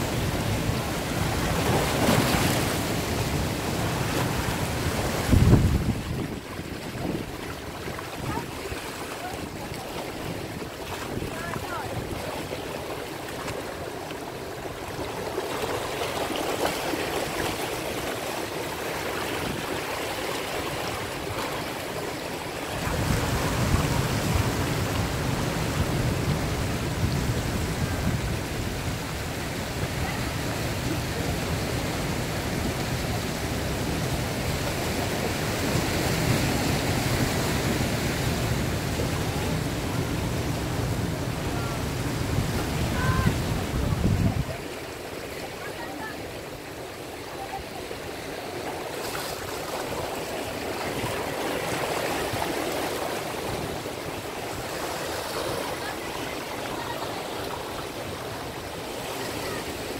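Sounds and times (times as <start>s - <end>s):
ocean surf rushing over rocks: 0.0s - 59.9s.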